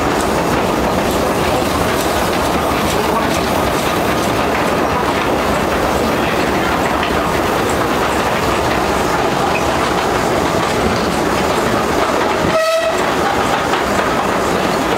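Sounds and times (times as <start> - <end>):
train wheels rattling on rails: 0.0 - 14.9.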